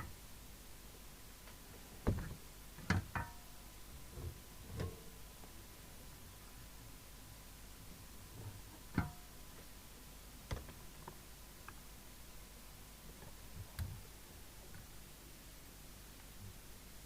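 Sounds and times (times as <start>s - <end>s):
low room hiss: 0.0s - 17.0s.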